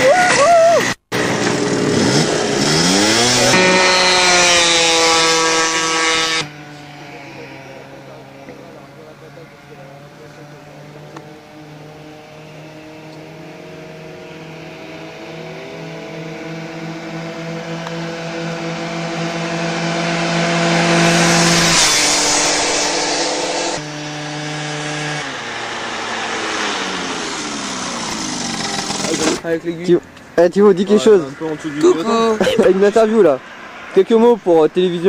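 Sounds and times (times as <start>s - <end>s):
scooter engine revving: 0.8s - 30.1s.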